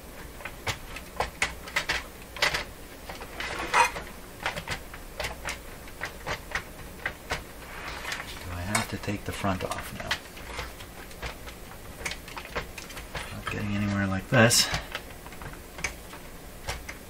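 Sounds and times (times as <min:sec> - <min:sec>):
clicks and knocks of metal and plastic parts: 0:00.2 - 0:07.5, 0:08.1 - 0:17.0.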